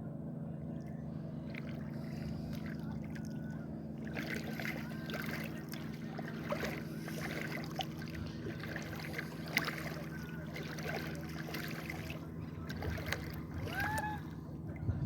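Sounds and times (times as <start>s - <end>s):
motorboat engine running: 0.0s - 15.0s
water noise: 0.5s - 15.0s.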